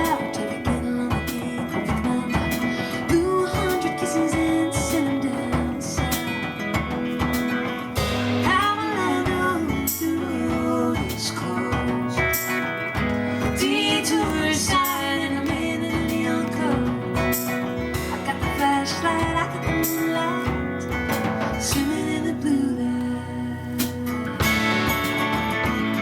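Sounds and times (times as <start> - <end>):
steady drum beat: 0.0 - 22.3, 23.8 - 26.0
live band playing: 0.0 - 22.8, 23.6 - 26.0
guitar: 0.0 - 26.0.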